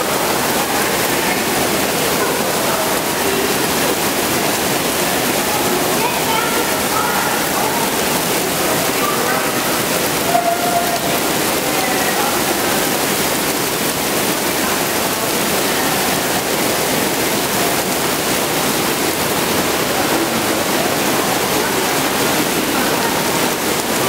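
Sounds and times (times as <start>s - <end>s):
rain pouring onto floor grating: 0.0s - 24.0s.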